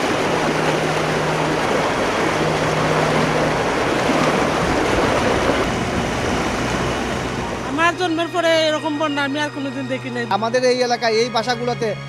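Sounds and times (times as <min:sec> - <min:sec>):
floodwater rushing: 0:00.0 - 0:10.2.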